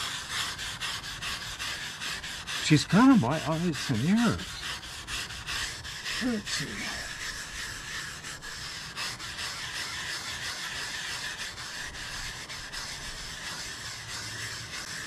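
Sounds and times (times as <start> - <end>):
wire brush scratching wet metal: 0.0 - 15.0.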